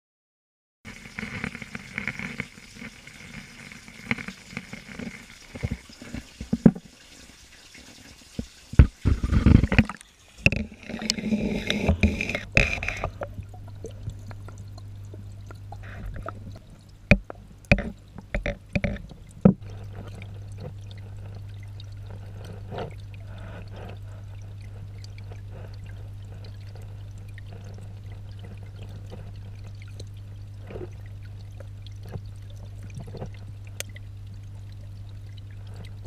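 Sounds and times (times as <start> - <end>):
underwater low hum: 0.9 - 7.0, 8.8 - 36.0
water sloshing and splashing: 0.9 - 36.0.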